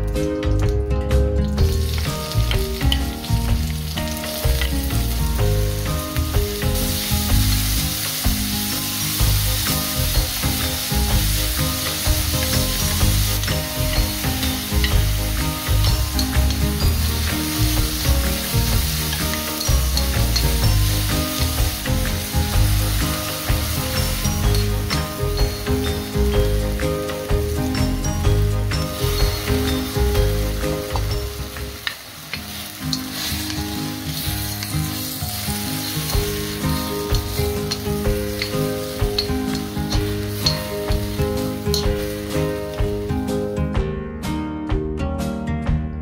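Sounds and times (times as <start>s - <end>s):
spatula stir-frying: 0.0s - 43.7s
vegetables sizzling in a wok: 0.0s - 43.7s.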